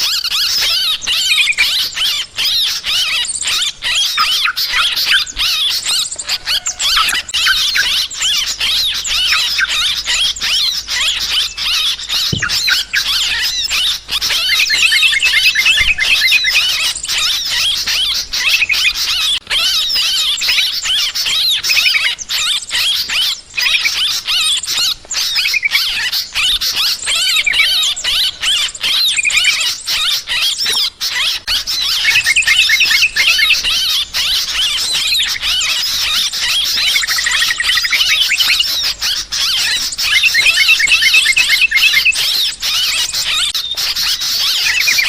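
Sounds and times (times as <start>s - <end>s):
birds chattering and chirping: 0.0s - 45.0s.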